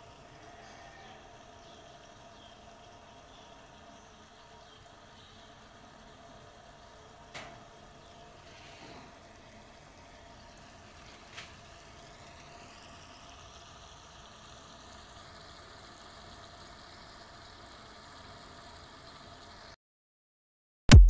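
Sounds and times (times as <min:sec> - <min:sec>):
mechanical hum with hiss: 0:00.0 - 0:19.8.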